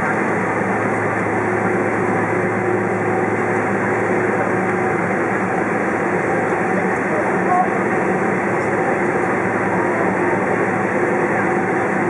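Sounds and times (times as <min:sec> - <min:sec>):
airplane cabin engine hum: 0:00.0 - 0:12.0.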